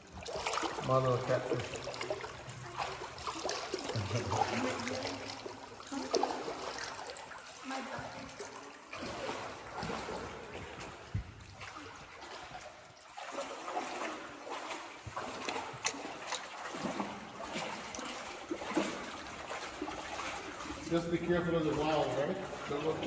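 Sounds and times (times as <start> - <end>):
river water trickling and splashing: 0.0 - 23.0
water drips: 0.0 - 23.0.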